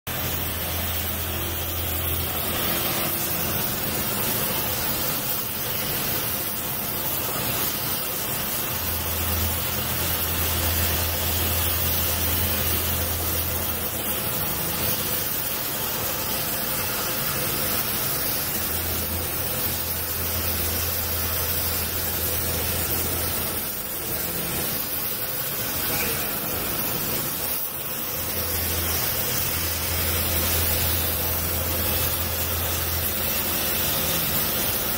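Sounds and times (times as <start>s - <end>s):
welding torch hissing: 0.1s - 34.9s.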